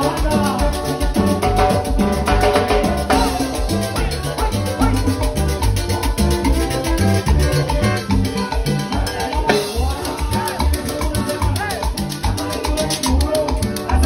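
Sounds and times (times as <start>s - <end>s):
acoustic guitar strumming: 0.0s - 14.0s
latin dance band playing: 0.0s - 14.0s.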